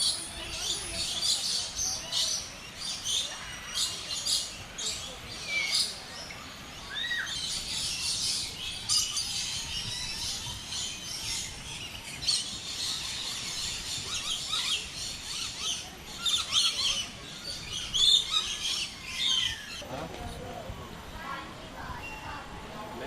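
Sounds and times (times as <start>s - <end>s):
small birds chirping and twittering: 0.0s - 23.0s.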